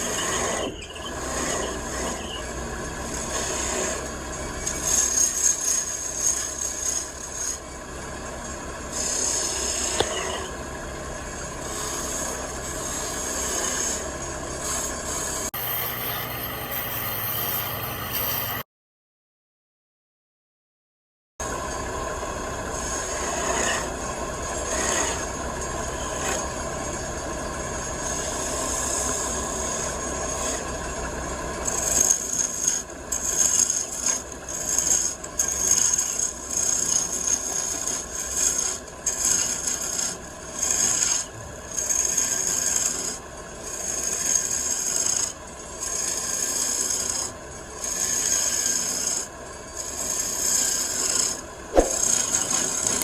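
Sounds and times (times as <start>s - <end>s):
lathe tool rasping on wood: 0.0s - 7.8s, 8.8s - 10.7s, 11.4s - 18.6s, 22.6s - 27.1s, 27.8s - 53.0s.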